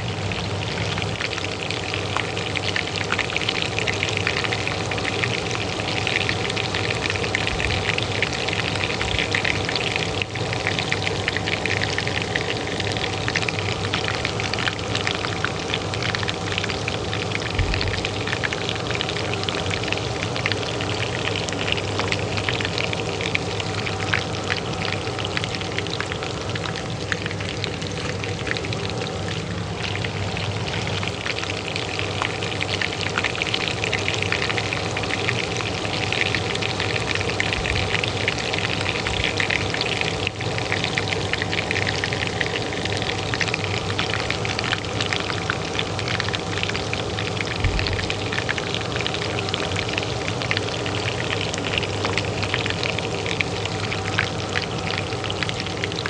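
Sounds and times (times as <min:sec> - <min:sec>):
oil sizzling in a pan: 0:00.0 - 0:56.0
range hood fan humming: 0:00.0 - 0:56.0.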